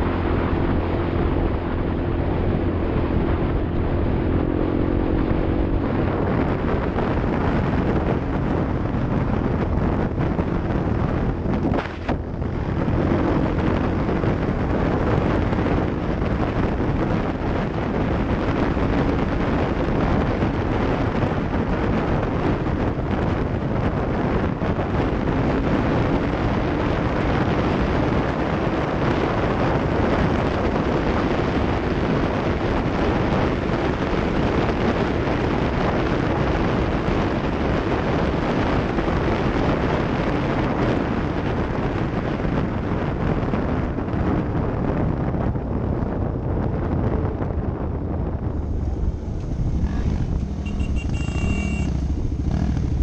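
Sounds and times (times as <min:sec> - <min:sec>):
off-road vehicle engine running: 0:00.0 - 0:53.0
wind buffeting microphone: 0:00.0 - 0:53.0.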